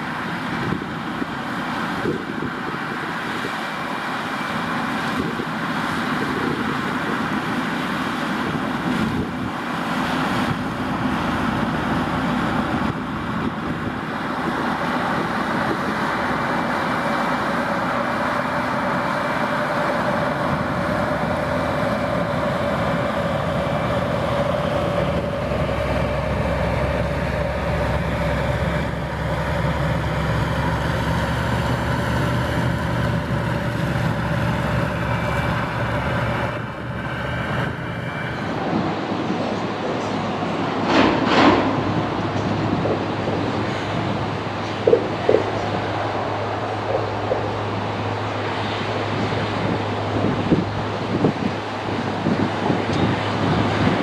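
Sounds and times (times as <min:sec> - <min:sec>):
combine harvester running: 0:00.0 - 0:54.0
tractor diesel engine under load: 0:00.0 - 0:54.0.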